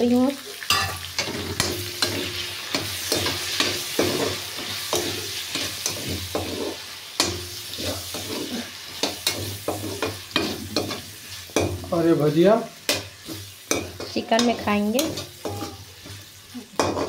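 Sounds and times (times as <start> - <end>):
onions sizzling in hot oil: 0.0 - 17.0
spatula scraping pan: 0.7 - 17.0.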